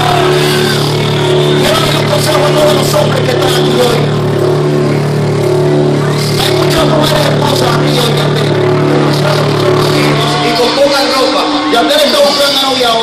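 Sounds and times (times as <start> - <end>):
held low synth tone: 0.0 - 12.5
live reggaeton music over pa: 0.0 - 13.0.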